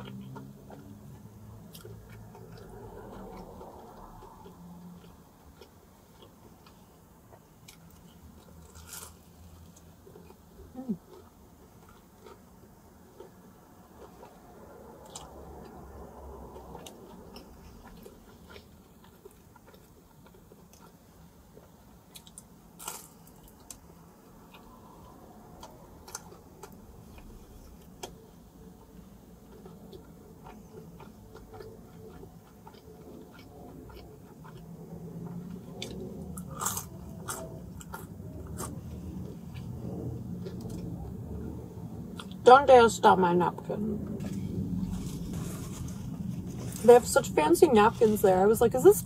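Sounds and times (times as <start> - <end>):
biting and chewing pizza: 0.0 - 42.4, 44.0 - 47.1.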